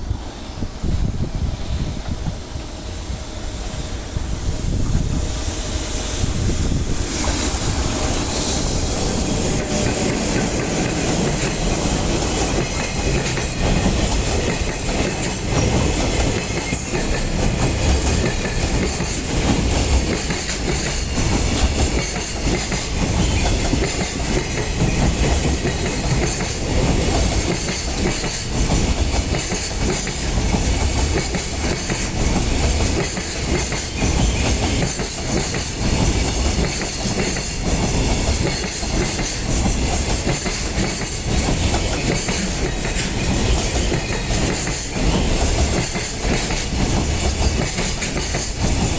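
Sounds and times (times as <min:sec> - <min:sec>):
train wheels clacking over rail joints: 0:06.4 - 0:48.9.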